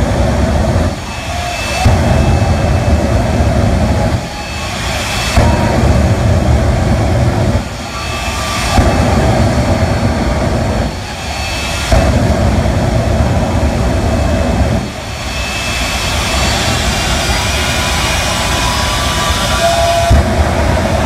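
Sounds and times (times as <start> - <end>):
jet engine roaring: 0.0 - 21.0.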